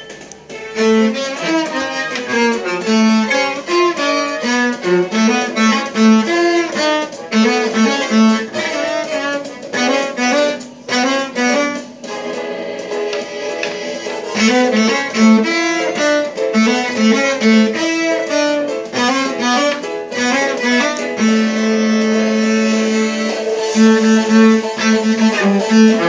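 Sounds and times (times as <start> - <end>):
lively violin tune: 0.0 - 26.0.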